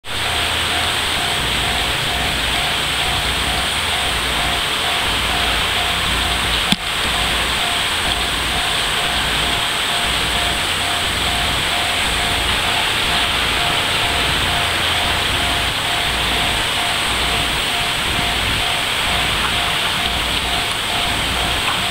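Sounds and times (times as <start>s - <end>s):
pulsing tone: 0.0s - 21.9s.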